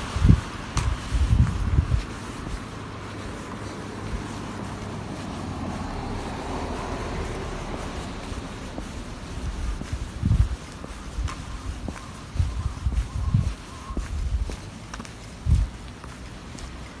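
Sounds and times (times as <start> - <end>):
vehicle road noise passing by: 0.0 - 17.0.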